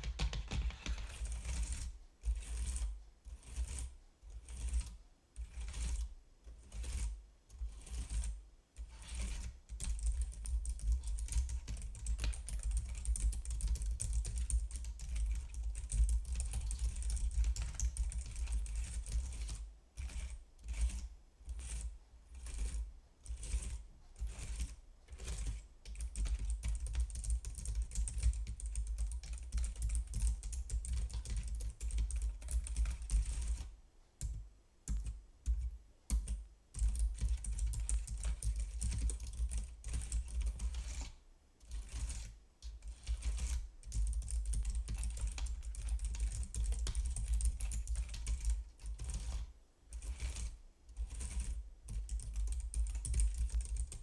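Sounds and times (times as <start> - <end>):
typing on computer keyboard: 0.0 - 1.9, 9.2 - 21.0, 23.4 - 41.1, 41.7 - 54.0.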